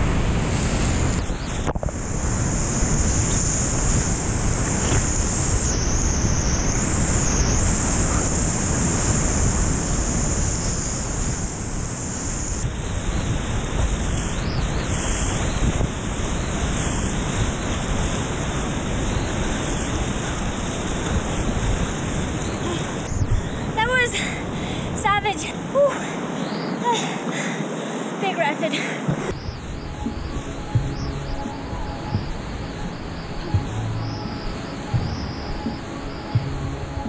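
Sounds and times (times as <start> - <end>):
wind buffeting microphone: 0.0 - 27.8, 28.7 - 37.0
whitewater rapids rushing: 0.0 - 37.0.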